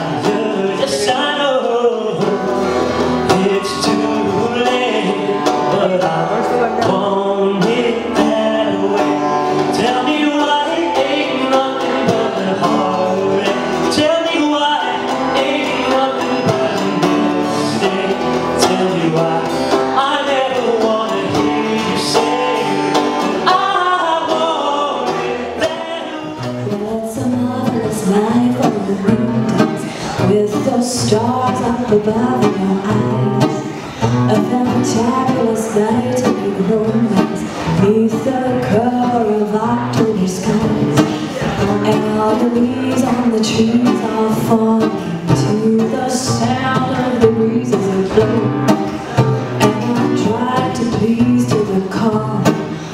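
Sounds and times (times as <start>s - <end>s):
acoustic guitar: 0.0s - 52.9s
person singing into a microphone: 0.0s - 52.9s.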